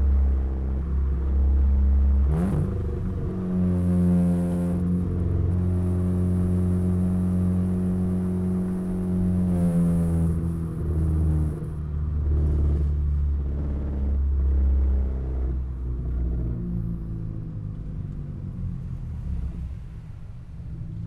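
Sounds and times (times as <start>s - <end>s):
car exhaust while driving: 0.0s - 21.0s.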